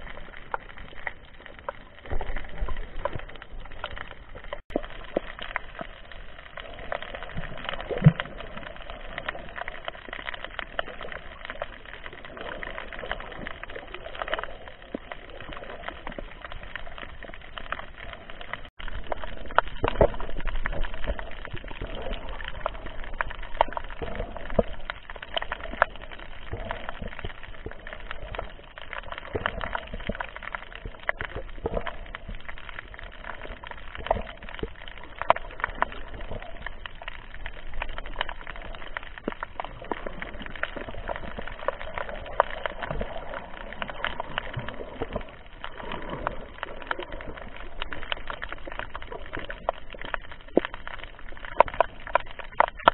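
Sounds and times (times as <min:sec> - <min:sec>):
underwater clicks and crackles: 0:00.0 - 0:52.9.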